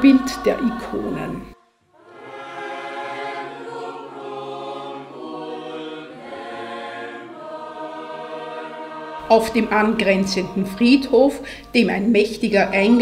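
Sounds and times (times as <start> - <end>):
choir singing long chords: 0.0 - 13.0.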